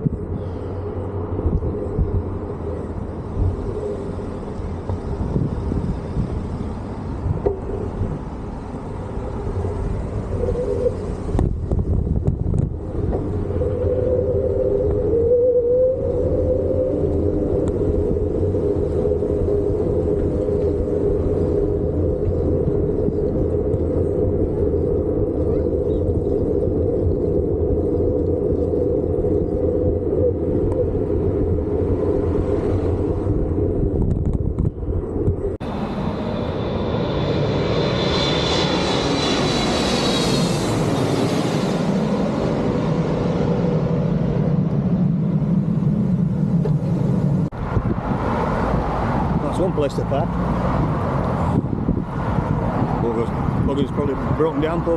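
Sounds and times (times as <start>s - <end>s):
jet airliner whine: 0.0s - 54.9s
road noise: 0.0s - 54.9s
wind buffeting microphone: 0.0s - 54.9s.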